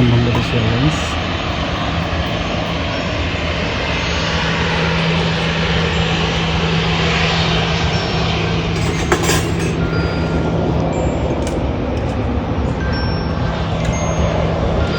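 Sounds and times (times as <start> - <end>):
jet engines roaring: 0.0 - 14.9.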